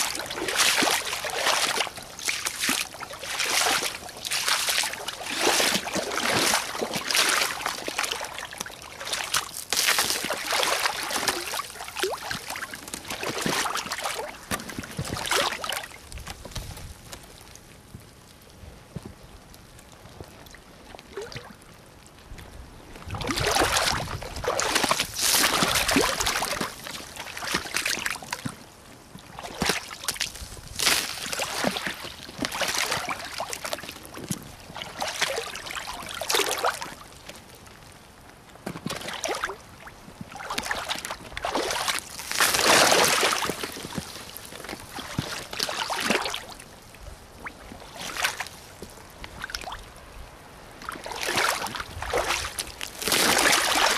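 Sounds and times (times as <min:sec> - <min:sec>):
boots splashing through muddy water: 0:00.0 - 0:17.8, 0:23.0 - 0:37.9, 0:38.6 - 0:49.9, 0:50.8 - 0:53.9.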